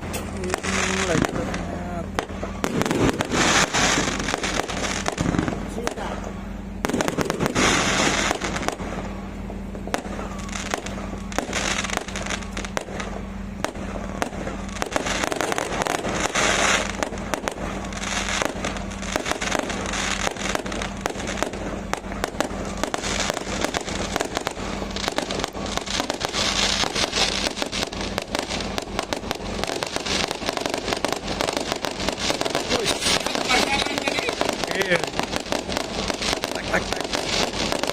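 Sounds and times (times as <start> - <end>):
firecrackers crackling: 0.0 - 37.9
firework bursts: 0.0 - 37.9.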